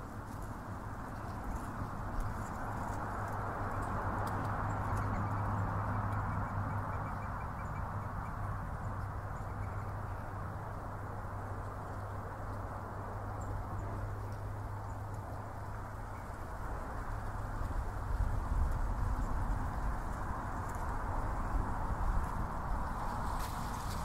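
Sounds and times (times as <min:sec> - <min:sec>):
distant road traffic rumble: 0:00.0 - 0:24.0.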